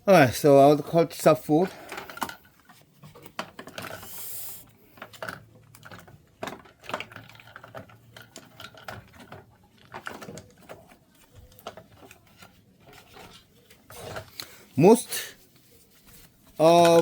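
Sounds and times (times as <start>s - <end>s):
hands handling small plastic parts: 0.7s - 17.0s.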